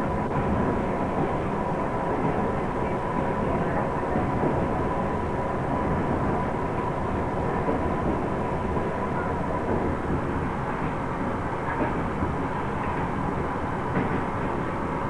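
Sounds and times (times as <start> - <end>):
train wheels and carriage noise: 0.0 - 15.0.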